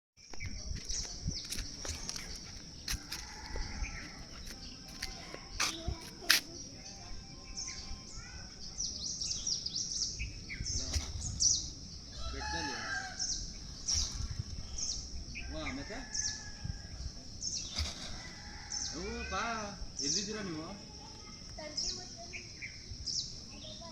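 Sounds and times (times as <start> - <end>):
birds chirping: 0.2 - 23.9.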